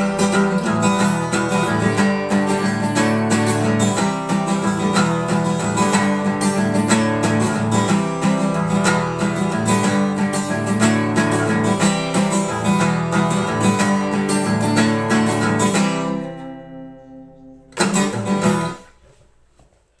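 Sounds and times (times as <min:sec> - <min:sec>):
acoustic guitar strumming chords: 0:00.0 - 0:19.2.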